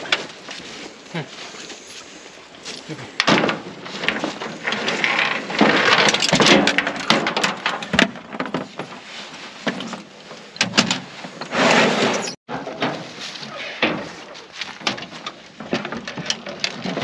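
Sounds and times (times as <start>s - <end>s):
scuffling and rustling: 0.0s - 17.0s.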